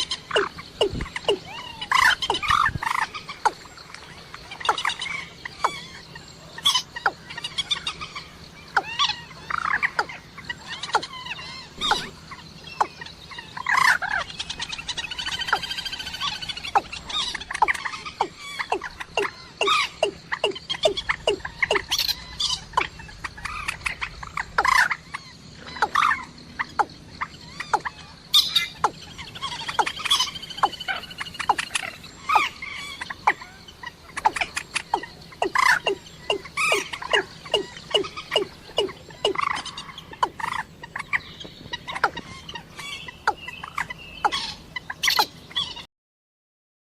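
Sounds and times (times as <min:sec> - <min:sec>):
faint steady hum: 0:00.0 - 0:45.9
moorhen calls: 0:00.0 - 0:45.9.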